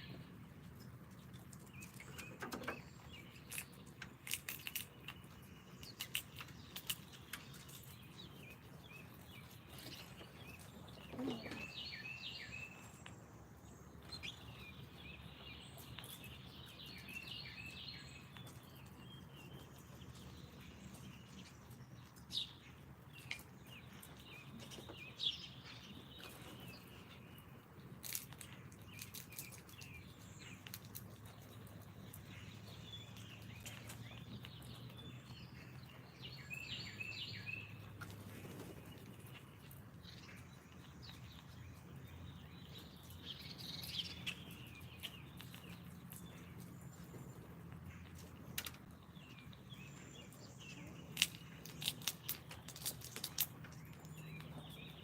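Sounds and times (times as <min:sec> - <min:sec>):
low background hum: 0:00.0 - 0:55.0
songbirds chirping and singing: 0:00.0 - 0:55.0.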